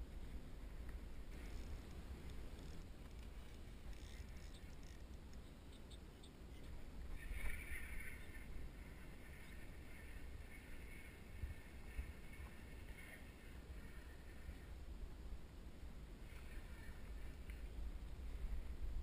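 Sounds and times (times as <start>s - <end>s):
wind and water rumble: 0.0s - 19.0s.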